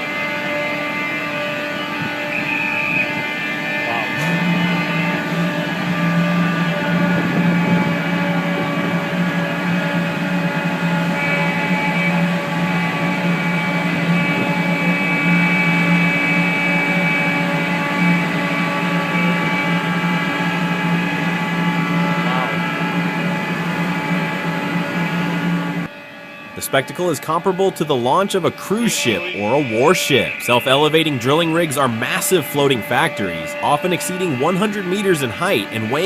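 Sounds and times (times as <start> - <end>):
low hum: 0.0 - 36.0
machinery drone: 0.0 - 36.0
steady high tones: 0.0 - 36.0.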